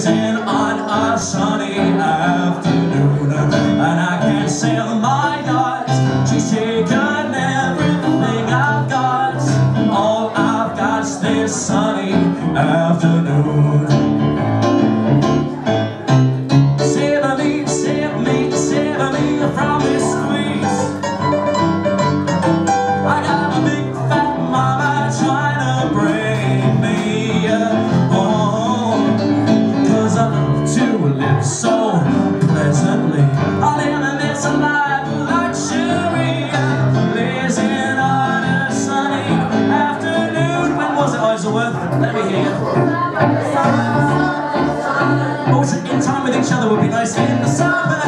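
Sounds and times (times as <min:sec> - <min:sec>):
digital piano chords: 0:00.0 - 0:48.0
man singing: 0:00.0 - 0:48.0.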